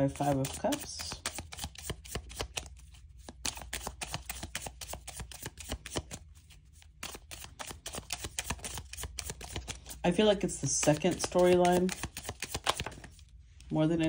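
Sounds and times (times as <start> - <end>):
cards being shuffled: 0.0 - 14.0.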